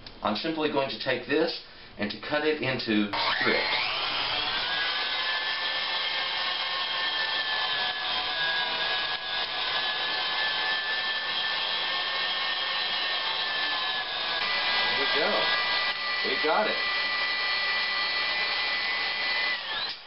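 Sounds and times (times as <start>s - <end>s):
stand mixer motor whine: 3.2s - 20.0s.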